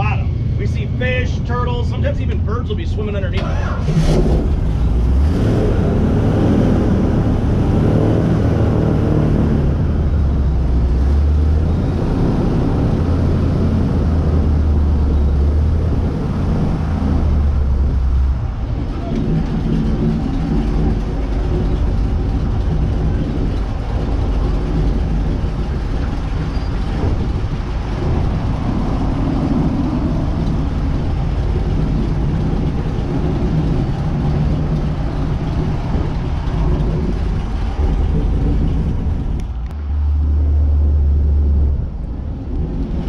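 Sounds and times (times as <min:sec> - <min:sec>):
airboat engine droning: 0:00.0 - 0:43.0.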